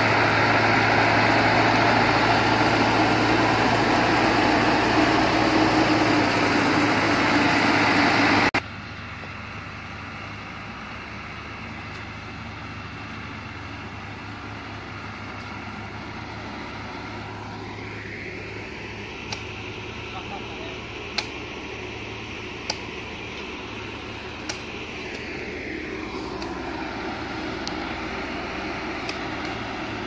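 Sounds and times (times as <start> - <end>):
diesel truck engine working hard: 0.0 - 30.0
distant engine drone: 0.0 - 30.0.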